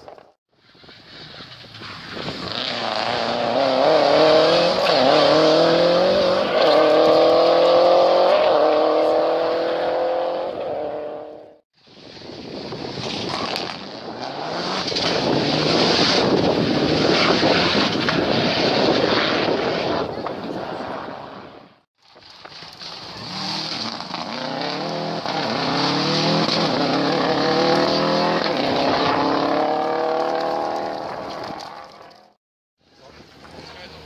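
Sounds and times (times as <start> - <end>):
rally car engine at full throttle: 1.7 - 11.6, 13.3 - 21.5, 22.6 - 32.3.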